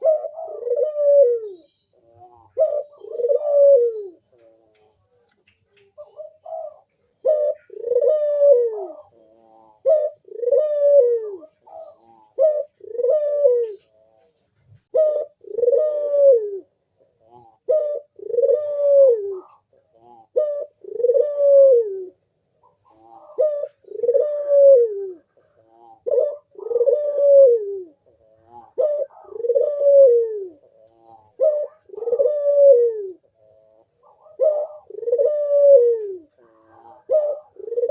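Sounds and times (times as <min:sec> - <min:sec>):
dove cooing: 0:00.0 - 0:37.9.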